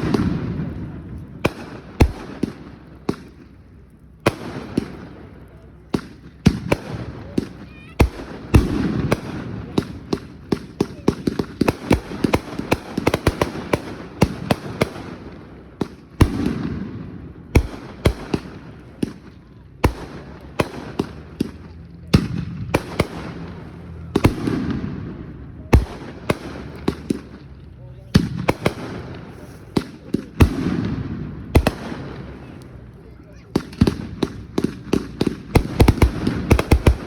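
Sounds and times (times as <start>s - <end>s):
fireworks bangs and booms: 0.0s - 37.0s.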